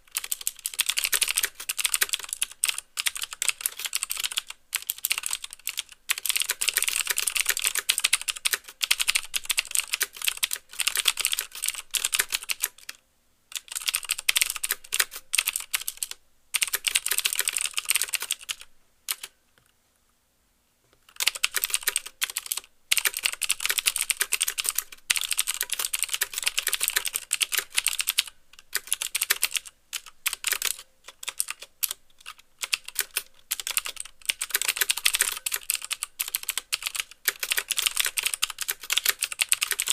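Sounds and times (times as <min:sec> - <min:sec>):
fast clicky keyboard typing: 0:00.1 - 0:19.3, 0:21.1 - 0:39.9.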